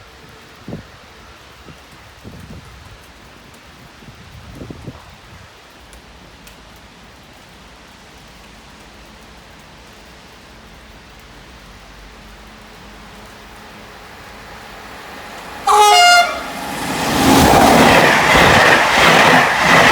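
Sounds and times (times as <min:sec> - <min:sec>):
low hum of train: 0:00.0 - 0:19.9
rain falling: 0:00.0 - 0:19.9.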